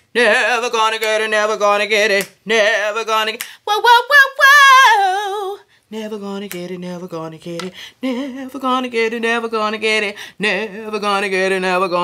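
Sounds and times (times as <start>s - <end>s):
woman singing a cappella: 0.0s - 12.0s.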